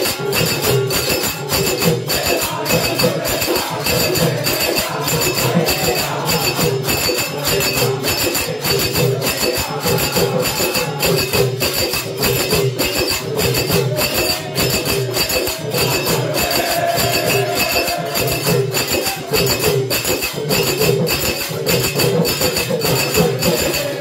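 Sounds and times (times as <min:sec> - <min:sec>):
group singing: 0:00.0 - 0:24.0
jingling metal hand percussion: 0:00.0 - 0:24.0.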